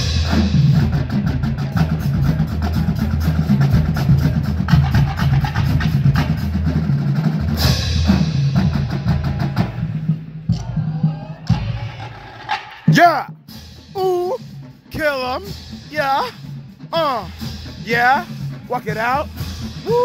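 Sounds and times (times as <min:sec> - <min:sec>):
marching drumline cadence: 0:00.0 - 0:20.0.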